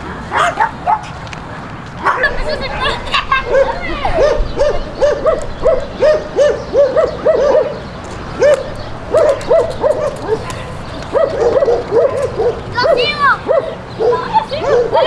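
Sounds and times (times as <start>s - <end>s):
dog barking: 0.2s - 1.2s, 2.0s - 2.4s, 3.4s - 15.0s.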